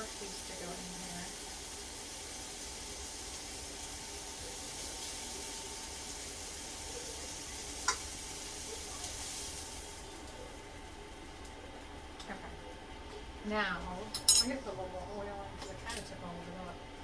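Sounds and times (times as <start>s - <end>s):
chicken sizzling in a frying pan: 0.0s - 14.2s.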